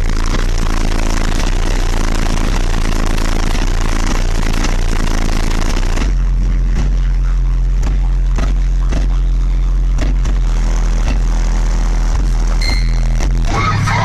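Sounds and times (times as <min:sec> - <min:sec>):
heavy bass from subwoofers: 0:00.0 - 0:14.0.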